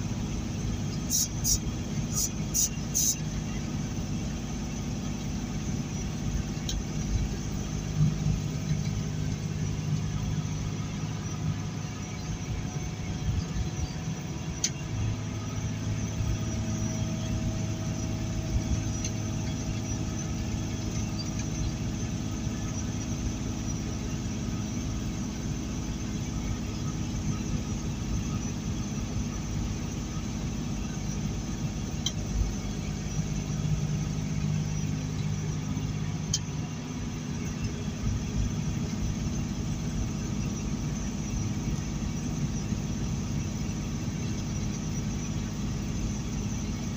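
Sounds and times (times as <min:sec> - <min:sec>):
truck engine drone: 0:00.0 - 0:46.9.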